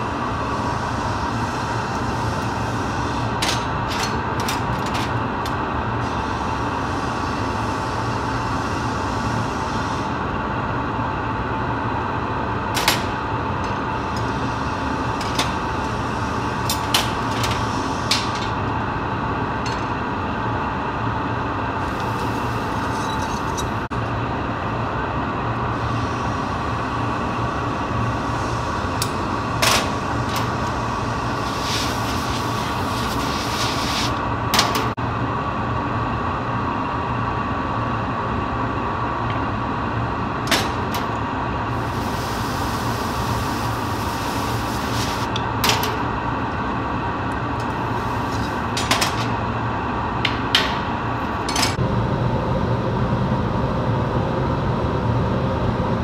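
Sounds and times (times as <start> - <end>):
furnace and blowers roaring: 0.0 - 56.0.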